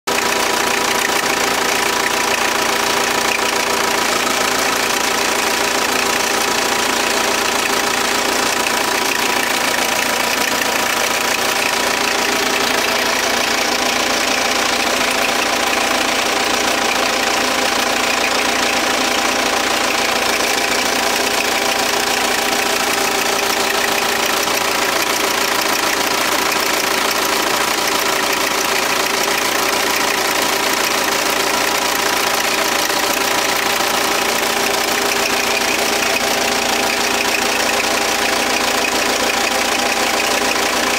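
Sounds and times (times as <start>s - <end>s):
engine knocking: 0.0s - 40.9s
diesel engine running: 0.1s - 40.9s.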